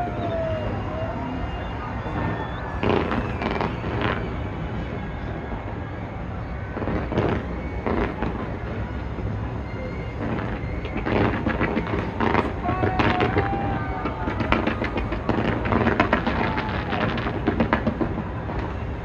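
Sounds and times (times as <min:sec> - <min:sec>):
distant fireworks rumble: 0:00.0 - 0:19.0
fireworks bangs and crackles: 0:00.0 - 0:19.0.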